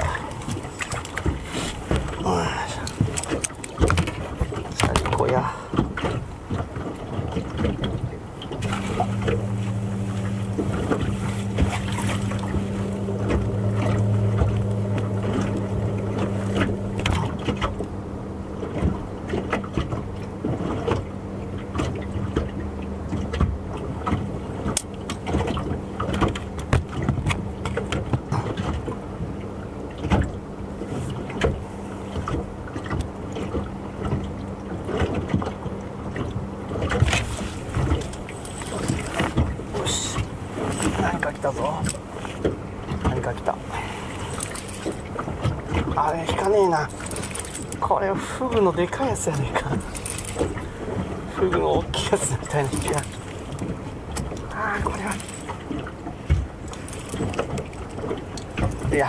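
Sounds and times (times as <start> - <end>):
boat engine humming: 0.0 - 59.0
water slapping against hull: 0.0 - 59.0.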